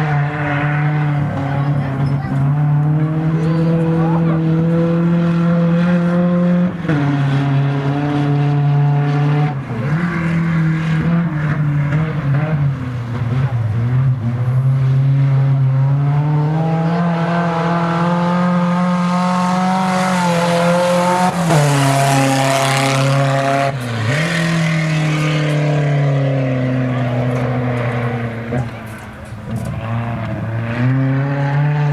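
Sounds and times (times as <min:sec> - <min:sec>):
race car engine running hard: 0:00.0 - 0:31.9.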